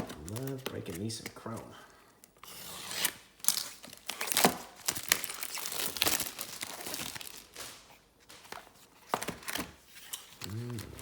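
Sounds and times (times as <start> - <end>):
plastic wrapping crinkling and tearing: 0.0 - 1.6, 2.8 - 11.0.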